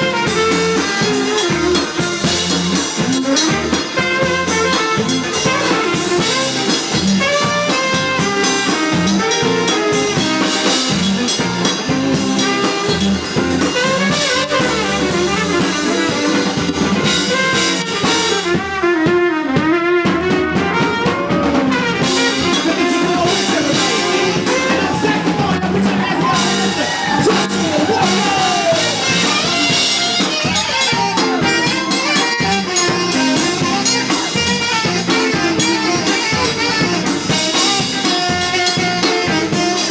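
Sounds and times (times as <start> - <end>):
blues band playing: 0.0 - 39.9.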